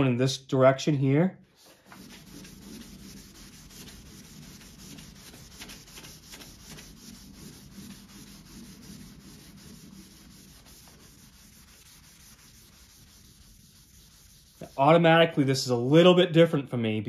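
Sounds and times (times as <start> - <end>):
sandpaper rubbing wet paint: 1.6 - 15.4.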